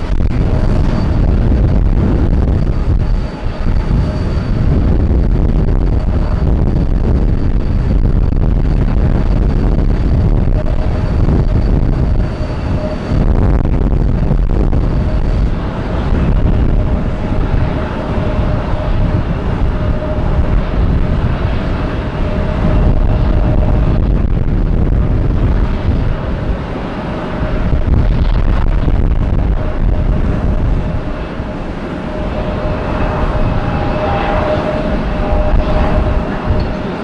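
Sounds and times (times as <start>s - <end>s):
jet engines roaring: 0.0s - 37.0s
wind buffeting microphone: 0.0s - 37.0s.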